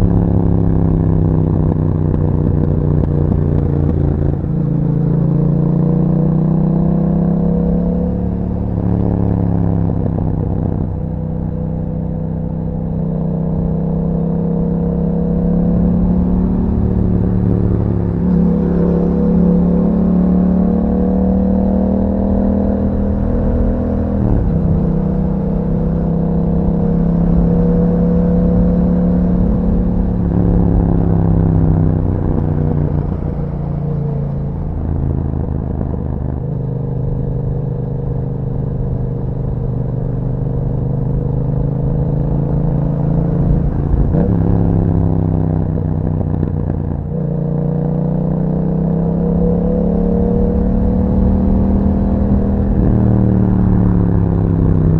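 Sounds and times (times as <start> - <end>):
motorcycle engine shifting gears: 0.0 - 54.9.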